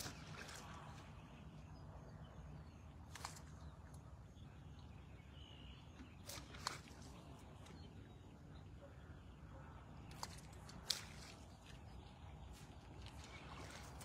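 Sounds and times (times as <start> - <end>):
bird chirp: 0.0 - 14.0.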